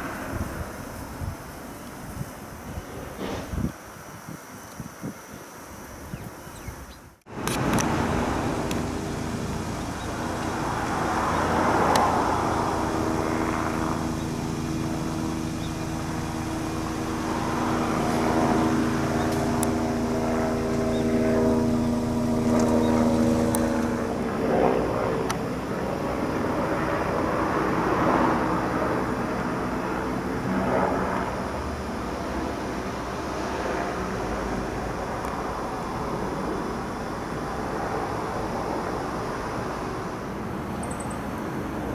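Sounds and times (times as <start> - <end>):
hum of steady tones: 5.8 - 41.9
helicopter engine and rotor drone: 7.3 - 41.9.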